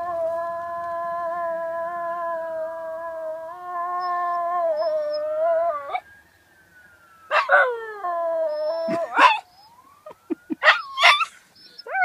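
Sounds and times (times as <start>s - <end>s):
dog howling and yelping: 0.0s - 6.0s, 7.3s - 9.7s, 10.6s - 12.0s
fire truck siren wailing: 0.0s - 12.0s.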